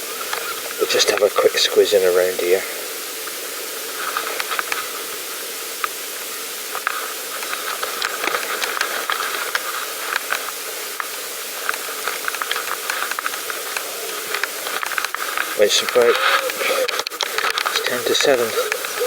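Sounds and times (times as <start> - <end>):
bicycle being ridden: 0.0 - 19.0.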